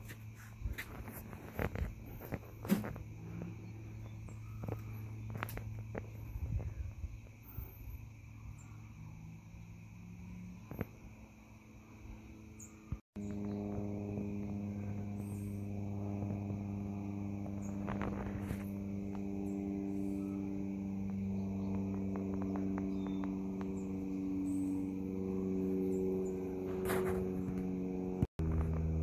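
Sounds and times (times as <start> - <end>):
low hum of held tones: 0.0 - 29.0.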